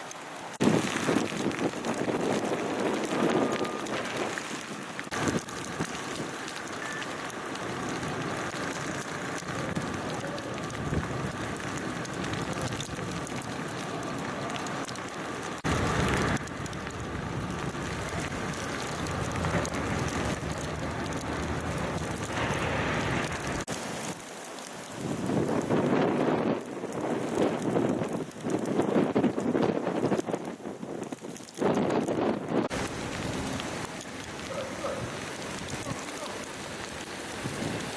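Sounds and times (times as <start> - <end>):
sleet and wet snow falling: 0.0 - 37.9
low traffic rumble: 0.5 - 29.8, 32.4 - 37.9.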